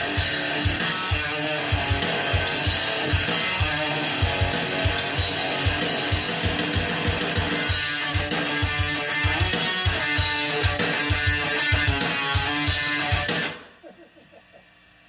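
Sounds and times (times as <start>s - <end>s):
rock music: 0.0s - 13.8s.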